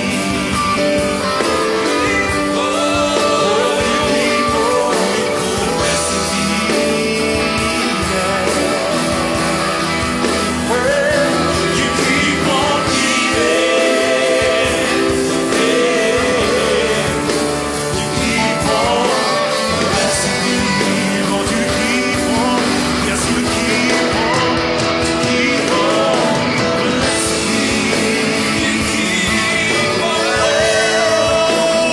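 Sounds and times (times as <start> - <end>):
person singing: 0.0 - 31.9
worship band music: 0.0 - 31.9.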